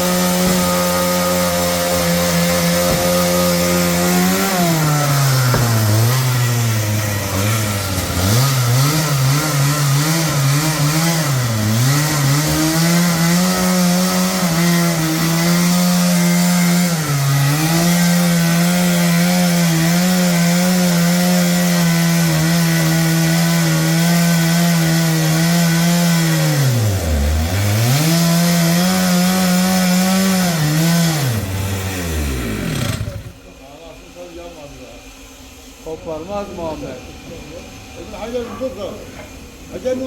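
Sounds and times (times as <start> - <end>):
chainsaw cutting wood: 0.0 - 33.5.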